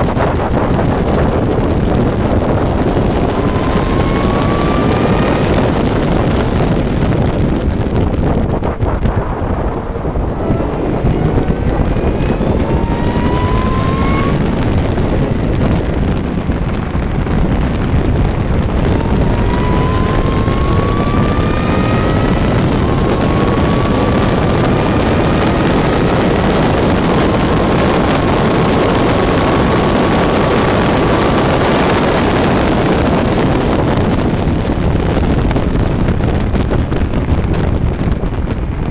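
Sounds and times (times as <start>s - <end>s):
race car engine shifting gears: 0.0s - 38.8s
wind rush on microphone: 0.0s - 38.9s.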